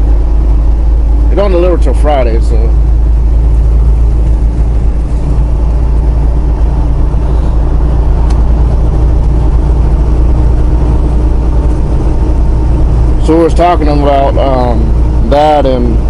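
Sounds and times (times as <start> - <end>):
diesel truck engine drone: 0.0 - 16.0
road noise: 0.0 - 16.0.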